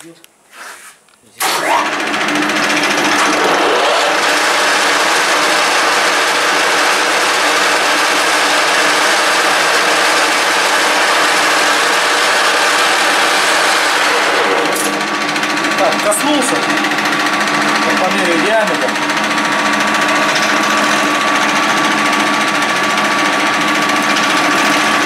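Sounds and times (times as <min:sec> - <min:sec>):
lathe gear noise: 0:01.4 - 0:25.0.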